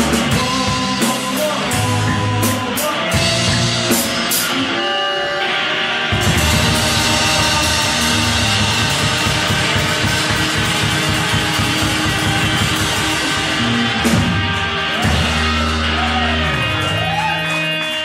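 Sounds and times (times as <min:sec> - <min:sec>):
fast drumming on drum kit: 0:00.0 - 0:04.5, 0:06.2 - 0:18.0
bass guitar: 0:00.0 - 0:18.0
electric guitars: 0:00.0 - 0:18.0.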